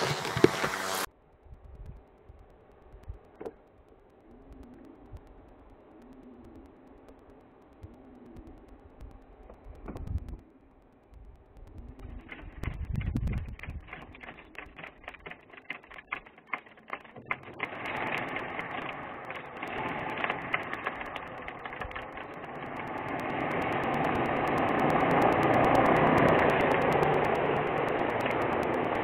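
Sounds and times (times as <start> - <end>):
drone motors whirring: 0.0 - 1.1, 2.9 - 29.0
rapid ticking clicks: 1.9 - 29.0.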